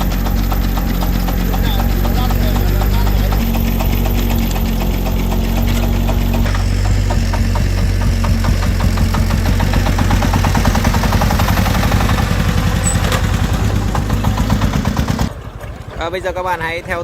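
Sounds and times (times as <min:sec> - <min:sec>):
diesel engine with rapid knocking: 0:00.0 - 0:17.0.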